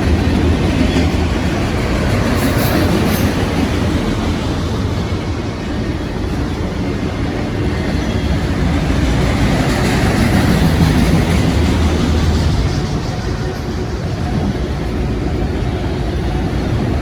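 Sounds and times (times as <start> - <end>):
freight train rolling past: 0.0 - 17.0
steel wheels on rails: 0.0 - 17.0.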